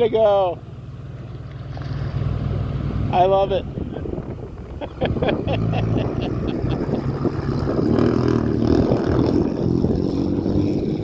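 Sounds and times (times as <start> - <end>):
vehicle engine running under load: 0.0 - 11.0.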